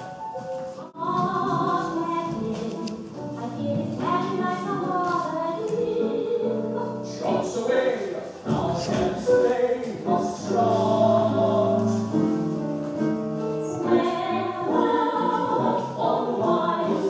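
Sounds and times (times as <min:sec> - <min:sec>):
voices singing in harmony: 0:00.8 - 0:12.8, 0:13.6 - 0:17.0.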